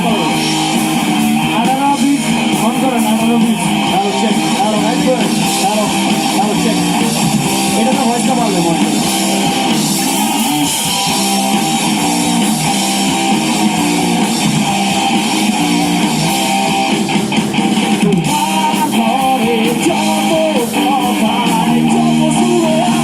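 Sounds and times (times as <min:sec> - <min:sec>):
electric guitars: 0:00.0 - 0:23.0
live rock band through pa: 0:00.0 - 0:23.0.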